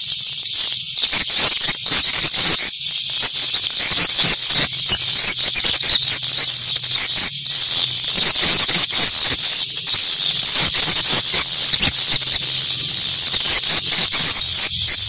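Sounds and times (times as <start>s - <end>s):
swiftlet calls twittering: 0.0s - 15.0s.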